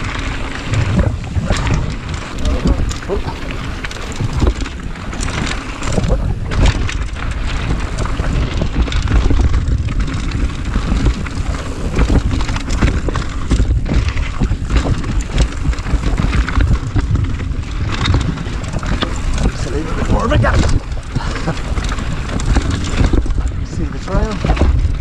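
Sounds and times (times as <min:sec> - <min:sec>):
bike clattering over bumps: 0:00.0 - 0:25.0
bike tyres rumbling over stones: 0:00.0 - 0:25.0
wind noise on microphone: 0:00.0 - 0:25.0.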